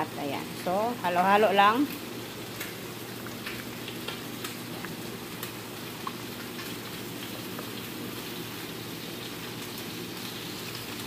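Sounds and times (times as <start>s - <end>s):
sauce sizzling with small pops: 0.4s - 11.0s.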